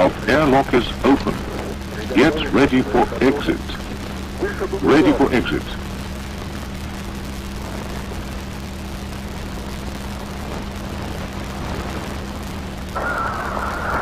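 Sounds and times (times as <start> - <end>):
constant low hum: 0.0 - 14.0
steady hiss: 0.0 - 14.0.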